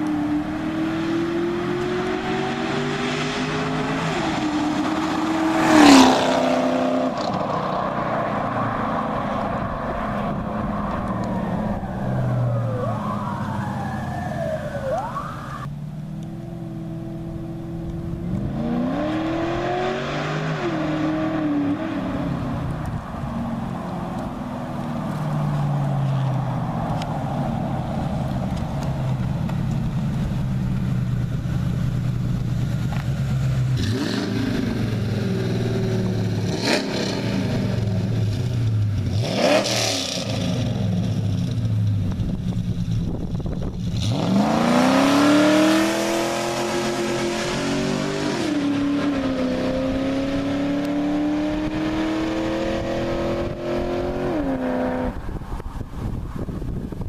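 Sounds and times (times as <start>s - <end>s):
car engine revving: 0.0s - 55.4s.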